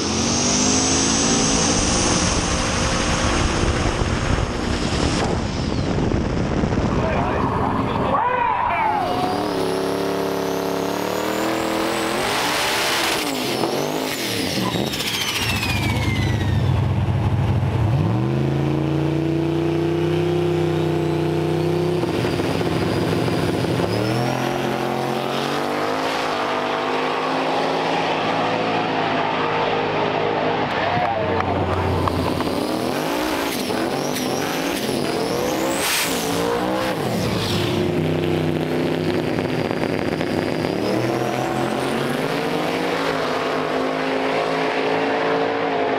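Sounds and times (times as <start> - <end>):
drag racing engines revving: 0.0 - 45.9.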